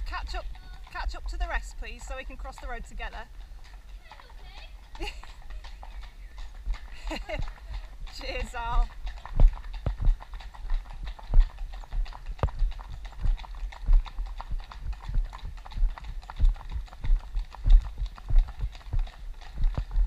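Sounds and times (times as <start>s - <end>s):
horse hooves on tarmac: 0.0s - 20.0s.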